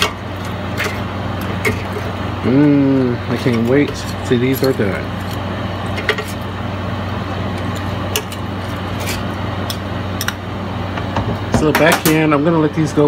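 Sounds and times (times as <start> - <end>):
ribs sizzling: 0.0 - 10.9
air fryer fan hum: 0.0 - 13.0.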